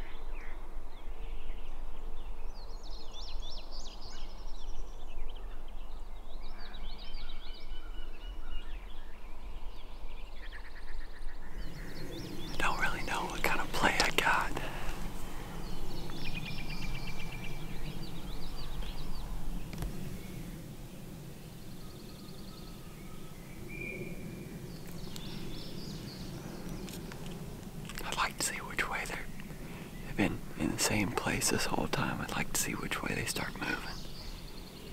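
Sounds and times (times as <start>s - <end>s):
songbirds chirping and whistling: 0.0s - 34.9s.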